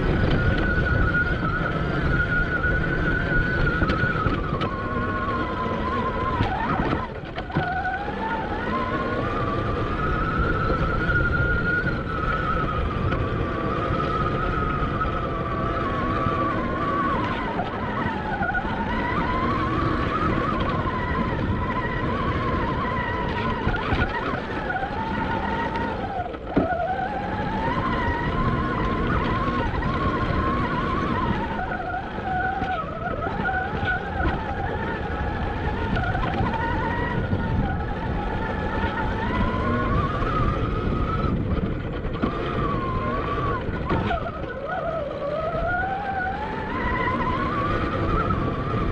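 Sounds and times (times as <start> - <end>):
electric motor whine: 0.0 - 48.9
rumble over rough ground: 0.0 - 48.9
wind noise on microphone: 0.0 - 48.9.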